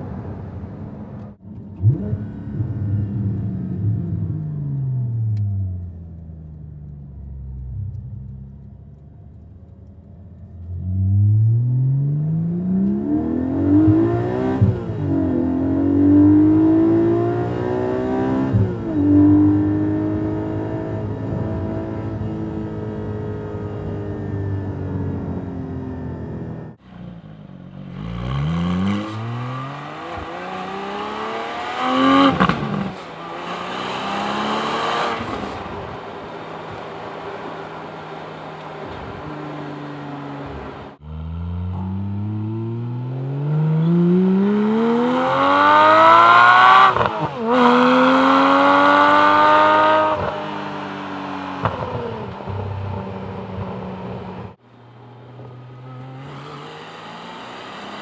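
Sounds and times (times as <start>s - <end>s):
sports car exhaust accelerating: 1.1s - 56.4s.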